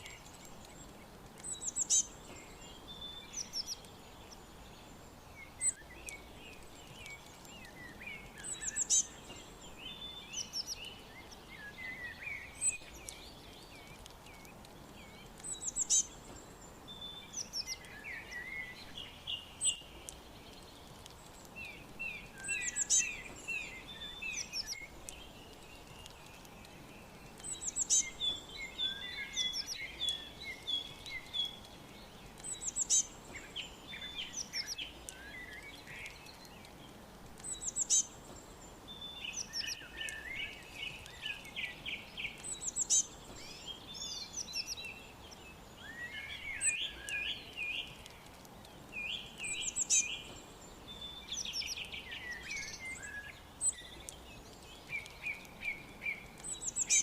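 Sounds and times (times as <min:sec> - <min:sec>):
faint steady hiss: 0:00.0 - 0:57.0
songbirds chirping and singing: 0:00.0 - 0:57.0.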